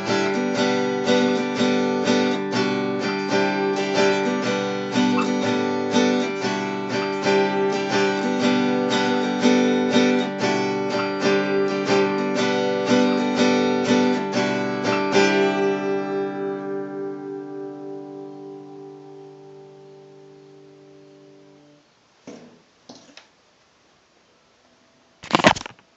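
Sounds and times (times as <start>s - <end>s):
acoustic guitar strumming: 0.0s - 21.8s.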